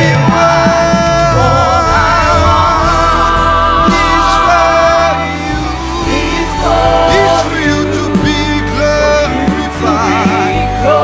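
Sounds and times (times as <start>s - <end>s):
band playing gospel music: 0.0s - 11.0s
person singing with vibrato: 0.0s - 11.0s.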